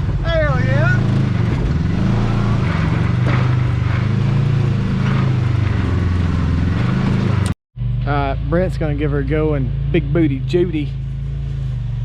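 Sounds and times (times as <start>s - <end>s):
utv engine droning: 0.0s - 12.0s.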